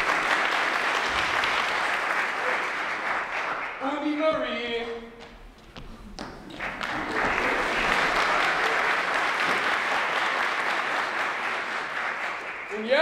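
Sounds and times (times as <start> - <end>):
audience applauding: 0.0 - 4.2, 5.8 - 13.0.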